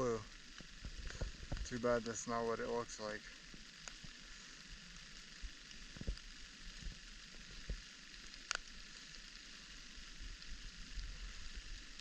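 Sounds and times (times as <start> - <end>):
light rain hissing: 0.0 - 12.0.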